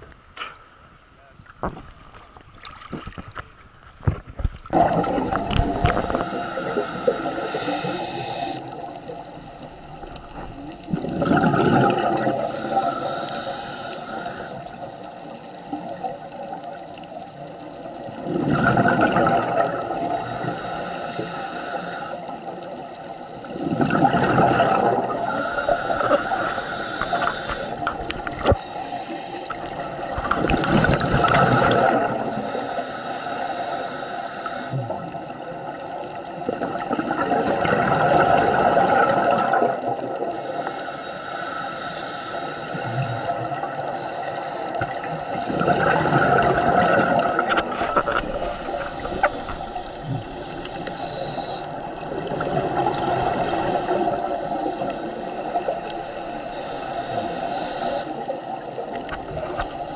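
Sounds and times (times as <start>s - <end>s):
bubbling exhaust underwater: 4.0s - 59.9s
diver inhaling through regulator: 4.7s - 16.2s, 19.0s - 35.1s, 38.0s - 59.9s.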